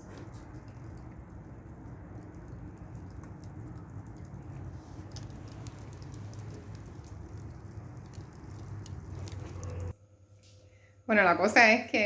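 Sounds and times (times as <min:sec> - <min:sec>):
campfire crackling and popping: 0:00.0 - 0:10.0
steady low rumble: 0:00.0 - 0:10.0.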